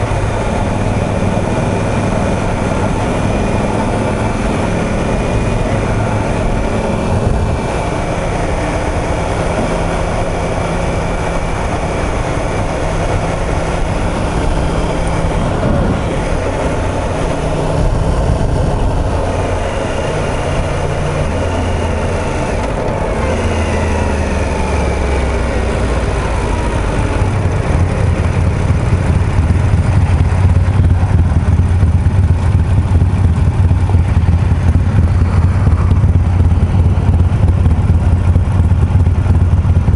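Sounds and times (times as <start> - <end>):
motorcycle engine: 0.0 - 39.9
motorcycle exhaust idling: 0.0 - 39.9
road noise: 0.0 - 39.9.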